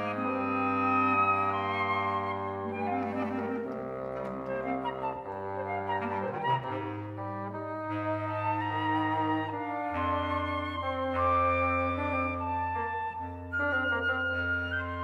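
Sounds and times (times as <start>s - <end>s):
woodwind trio playing chords: 0.0s - 15.0s.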